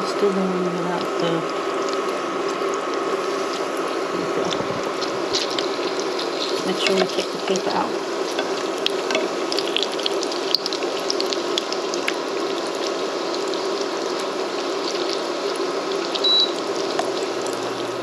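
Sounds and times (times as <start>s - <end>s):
donuts sizzling in hot oil: 0.0s - 18.0s.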